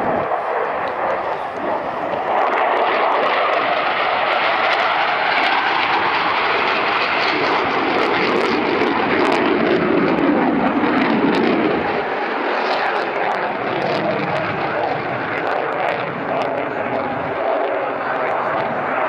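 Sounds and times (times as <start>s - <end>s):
fighter jet flying overhead: 0.0s - 19.0s.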